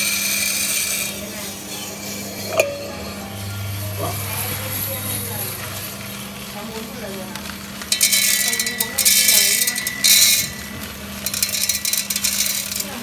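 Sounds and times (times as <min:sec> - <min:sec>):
coffee beans rattling on metal: 0:00.0 - 0:03.2, 0:04.0 - 0:13.0
steady low hum: 0:00.9 - 0:12.8.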